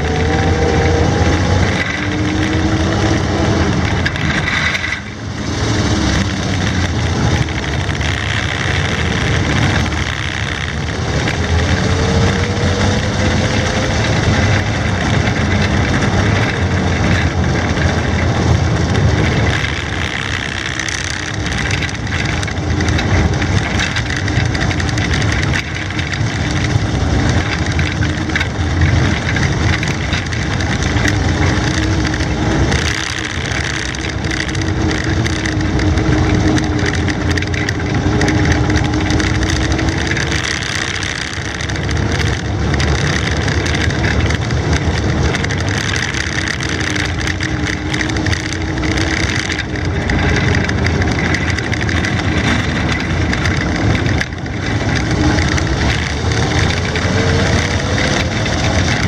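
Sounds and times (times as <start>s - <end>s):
tracked vehicle engine running: 0.0s - 59.0s
tracks rolling over grass: 0.0s - 59.0s.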